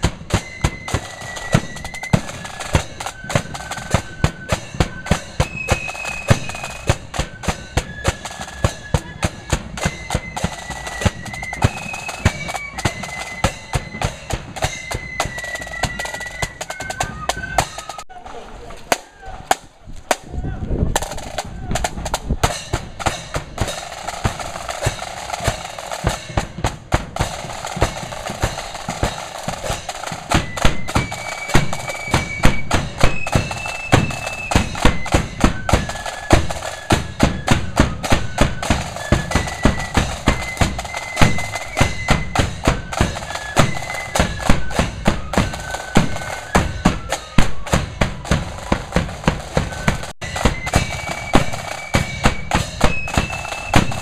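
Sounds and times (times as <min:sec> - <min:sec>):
snare and bass drums marching: 0:00.0 - 0:18.1, 0:18.7 - 0:54.0
flutes playing high melody: 0:00.0 - 0:18.2, 0:20.4 - 0:26.5, 0:27.1 - 0:54.0.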